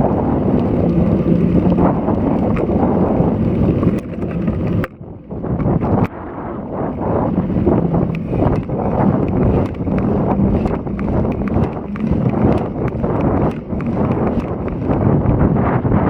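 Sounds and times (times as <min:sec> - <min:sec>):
bike clicks and rattles: 0:00.0 - 0:06.1, 0:06.8 - 0:15.8
wind buffeting microphone: 0:00.0 - 0:16.0.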